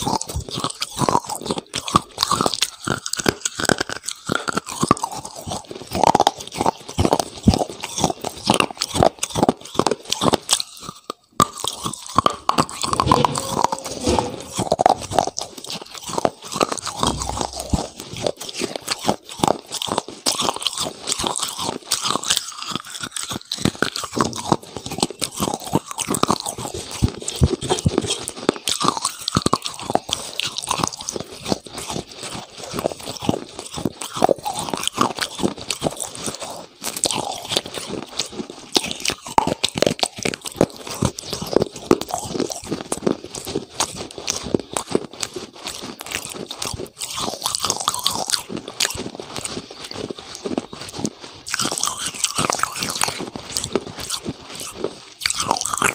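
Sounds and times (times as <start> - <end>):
crunchy food chewing: 0.0 - 55.9.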